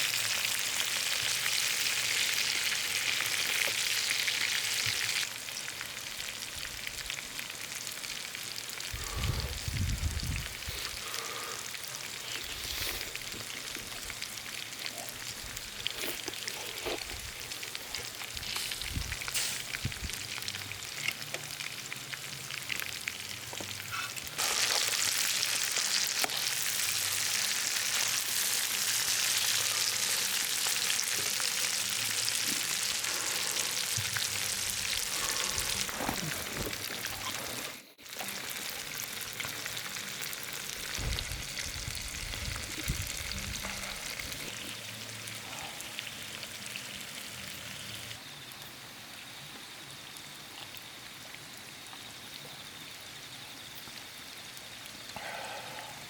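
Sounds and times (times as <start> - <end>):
food sizzling on griddle: 0.0 - 55.9.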